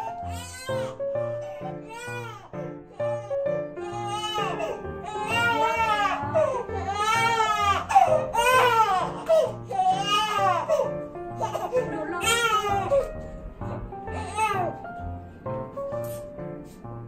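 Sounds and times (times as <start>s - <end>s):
baby crying: 0.0s - 13.1s, 14.1s - 14.8s
soft background music: 0.0s - 17.0s.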